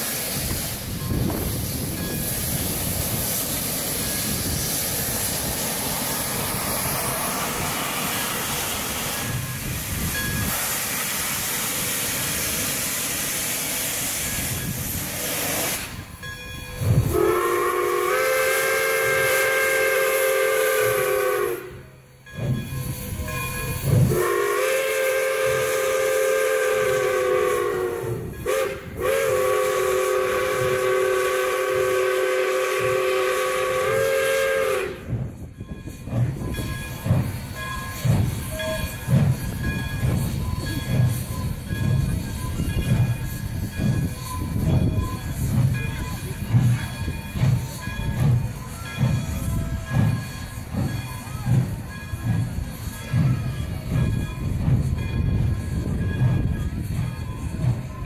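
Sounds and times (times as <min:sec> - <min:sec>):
steam locomotive chime whistle: 0:00.0 - 0:58.0.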